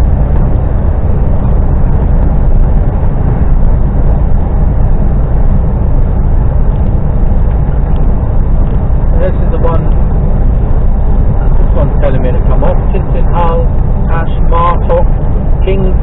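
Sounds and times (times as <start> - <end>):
lorry engine rumble: 0.0 - 16.0
road noise: 0.0 - 16.0.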